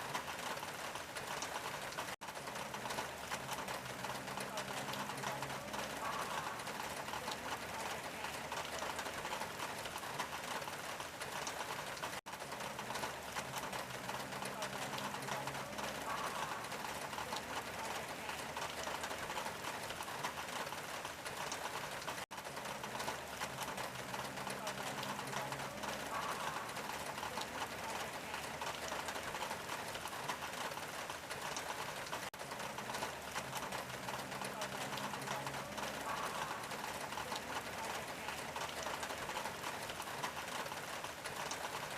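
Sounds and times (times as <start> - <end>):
rain on a tin roof: 0.0 - 41.9.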